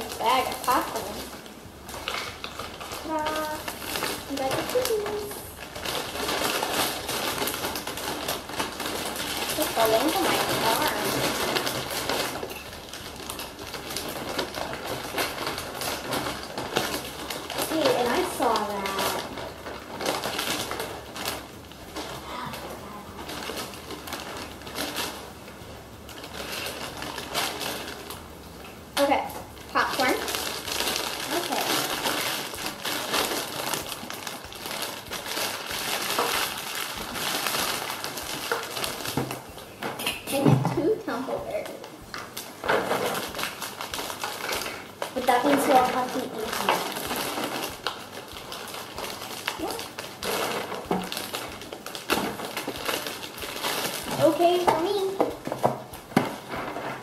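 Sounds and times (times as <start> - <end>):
plastic snack bag crinkling: 0.0 - 57.0.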